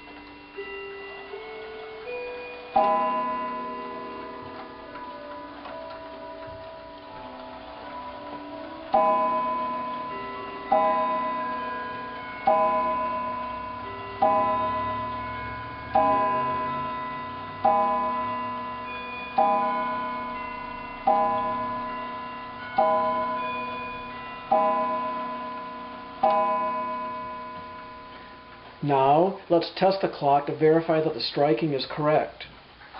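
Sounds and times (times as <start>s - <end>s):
clock gong striking: 0.0s - 29.2s
clock ticking: 0.0s - 29.9s.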